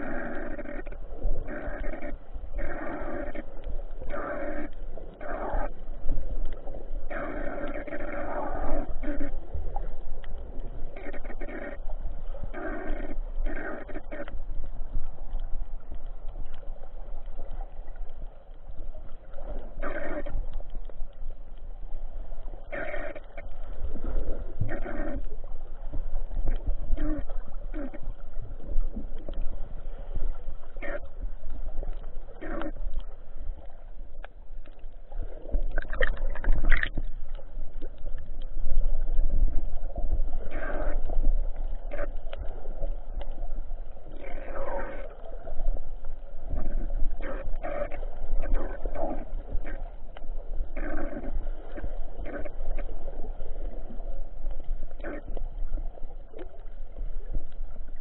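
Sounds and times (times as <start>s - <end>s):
low underwater rumble: 0.0s - 58.0s
water gurgling: 0.0s - 58.0s.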